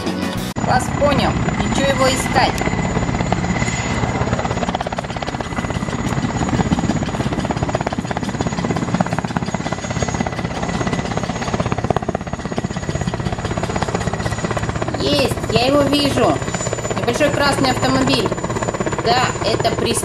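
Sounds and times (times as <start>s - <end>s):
helicopter engine hum: 0.0s - 20.0s
helicopter rotor chopping: 0.0s - 20.0s.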